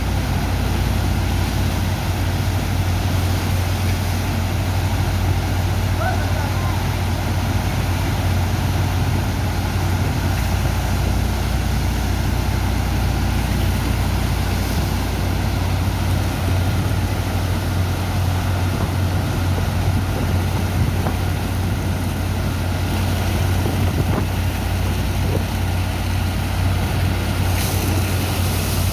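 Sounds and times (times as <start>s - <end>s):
pump engine droning: 0.0s - 28.9s.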